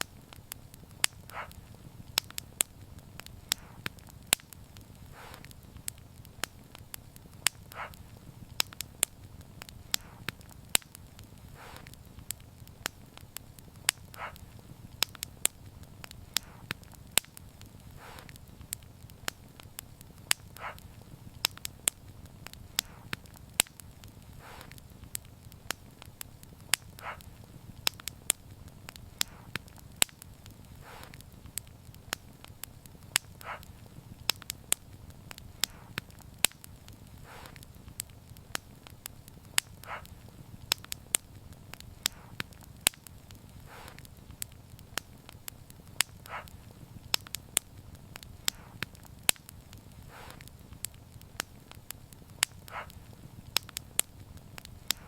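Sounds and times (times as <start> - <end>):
low rumble of burning: 0.0 - 55.0
soft puffs: 0.0 - 55.0
wood fire crackling and popping: 0.0 - 55.0.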